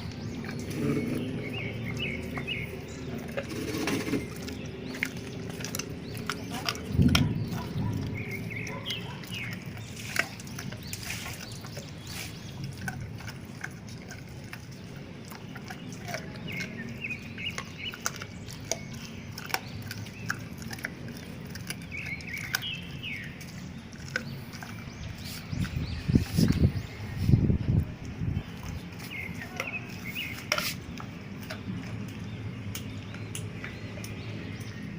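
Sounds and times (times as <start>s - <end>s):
birds chirping: 0.0s - 34.9s
dogs chewing and crunching bones: 0.0s - 34.9s.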